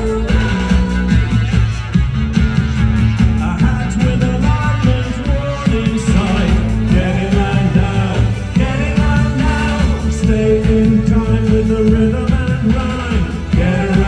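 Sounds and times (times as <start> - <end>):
person singing: 0.0 - 1.7, 3.3 - 14.0
drums: 0.0 - 14.0
synthesizer bass line: 0.0 - 14.0.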